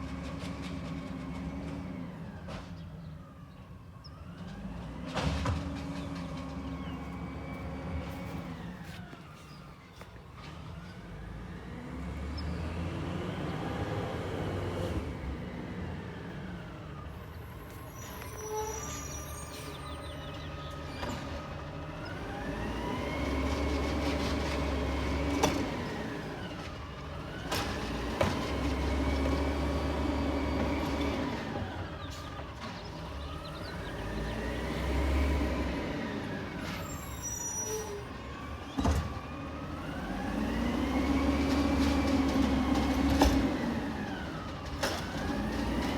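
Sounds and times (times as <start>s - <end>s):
diesel engine revving: 4.2s - 45.9s.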